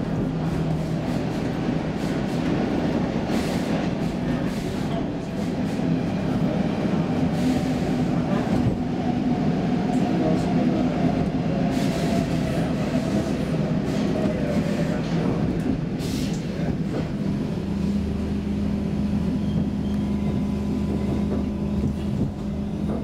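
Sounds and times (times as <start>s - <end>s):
subway train wheels rumbling: 0.0s - 23.0s.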